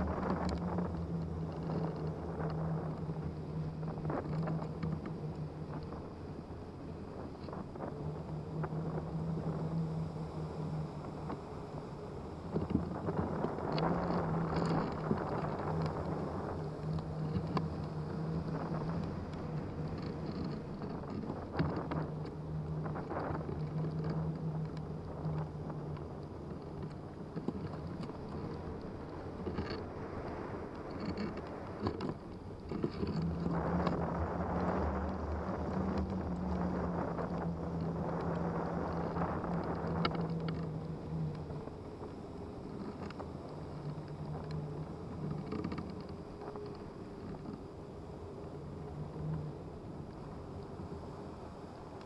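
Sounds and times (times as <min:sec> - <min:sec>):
low steady hum: 0:00.0 - 0:52.0
wind rushing past microphone: 0:00.0 - 0:52.0.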